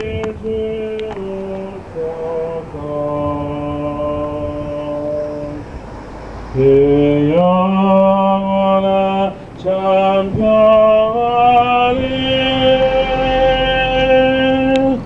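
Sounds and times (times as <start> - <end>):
man singing a chant: 0.0 - 5.7, 6.5 - 15.0.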